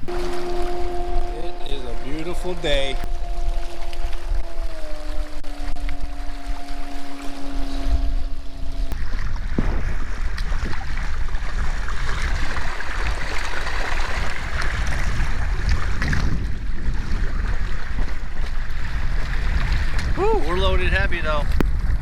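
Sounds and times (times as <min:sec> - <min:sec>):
water splashing around canoe: 0:00.0 - 0:22.0
wind rumbling on microphone: 0:00.0 - 0:22.0.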